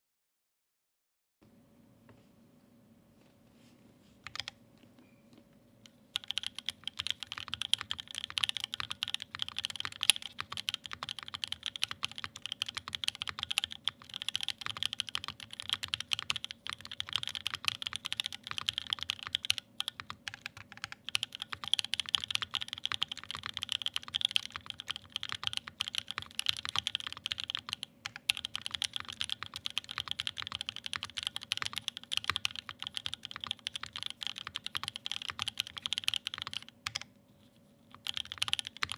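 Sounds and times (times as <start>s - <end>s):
mechanical keyboard typing: 4.2s - 4.6s, 6.1s - 37.1s, 37.9s - 38.9s.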